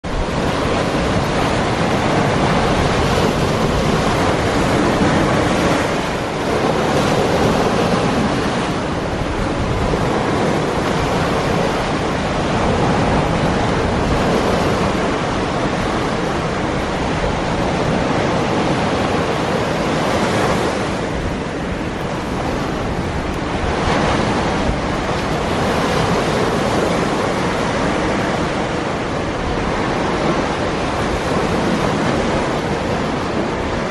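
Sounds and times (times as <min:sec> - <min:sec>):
surf washing over rocks: 0:00.0 - 0:33.9
wind buffeting microphone: 0:00.0 - 0:33.9.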